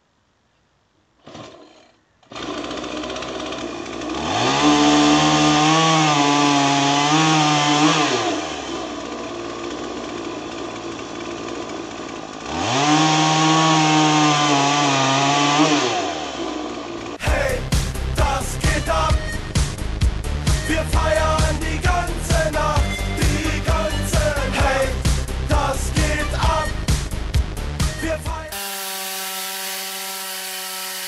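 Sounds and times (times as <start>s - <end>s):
chainsaw cutting logs: 1.2s - 19.8s, 20.4s - 31.0s.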